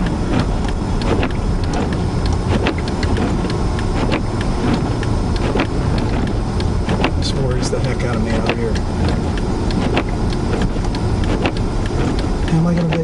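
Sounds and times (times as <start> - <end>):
car engine tyres and wind rumble: 0.0 - 13.0.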